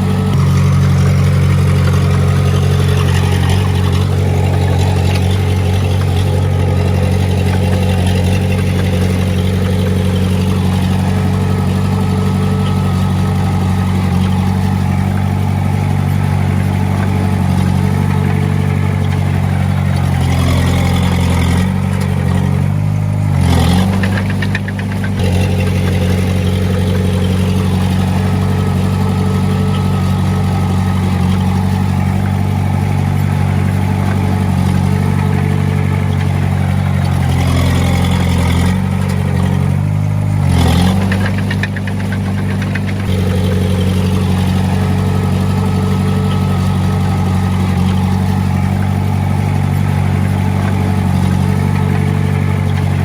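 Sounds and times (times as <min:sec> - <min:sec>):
diesel engine running and revving: 0:00.0 - 0:53.0.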